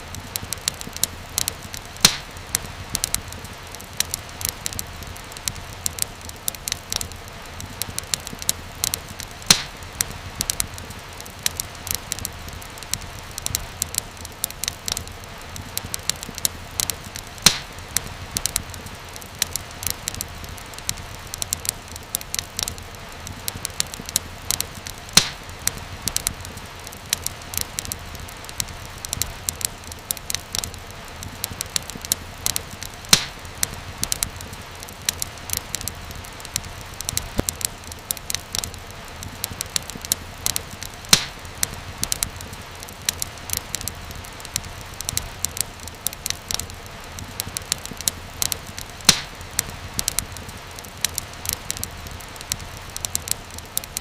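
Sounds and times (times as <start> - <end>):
loud fire snap: 0.0 - 54.0
low fire hiss: 0.0 - 54.0
wood fire crackling: 0.0 - 54.0.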